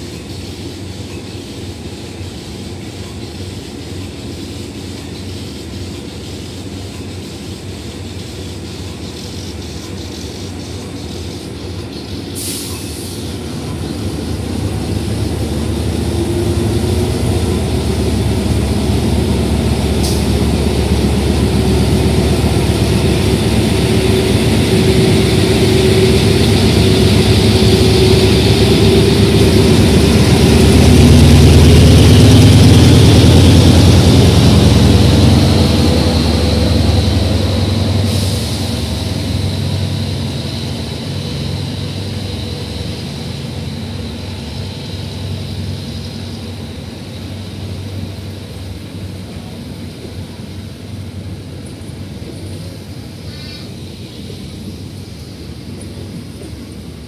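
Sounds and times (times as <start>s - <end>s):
locomotive engine rumble: 0.0s - 57.0s
train wheels clicking on track: 0.0s - 57.0s.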